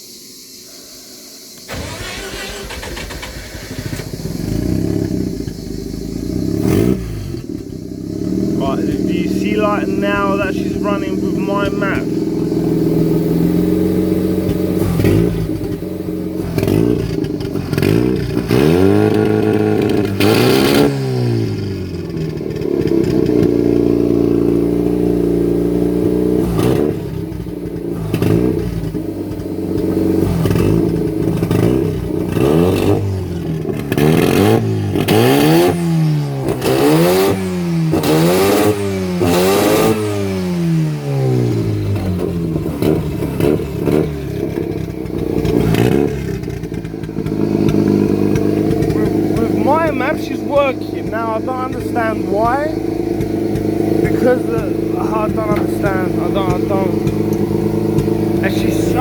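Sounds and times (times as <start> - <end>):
car engine revving: 1.6 - 59.0.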